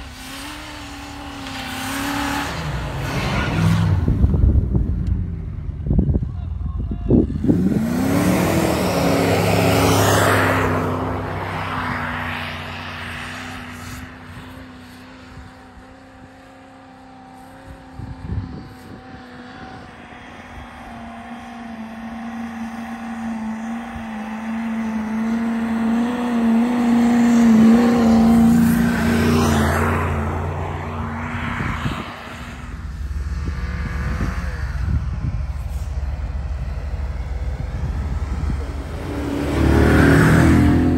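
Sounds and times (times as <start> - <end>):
suv engine running hard: 0.0 - 40.9.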